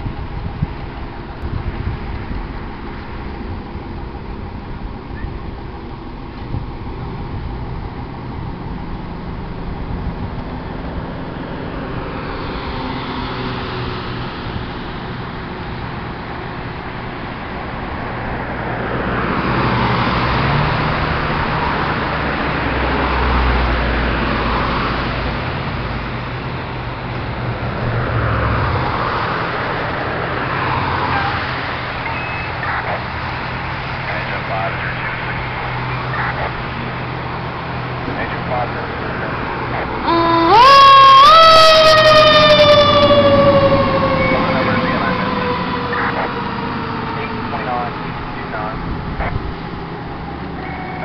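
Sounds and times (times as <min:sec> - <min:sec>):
fire engines idling hum: 0:00.0 - 0:51.0
road traffic passing: 0:00.0 - 0:51.0.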